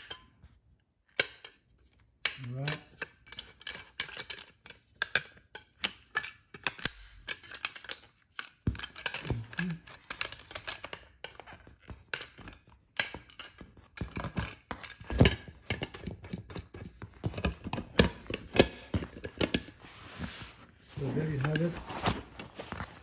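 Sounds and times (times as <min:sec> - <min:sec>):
folding shovel clicking and knocking: 0:02.2 - 0:19.8, 0:21.1 - 0:23.0.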